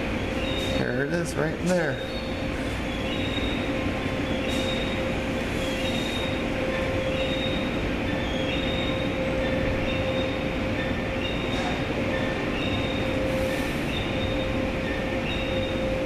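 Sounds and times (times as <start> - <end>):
car wash machinery rumble: 0.0 - 16.0.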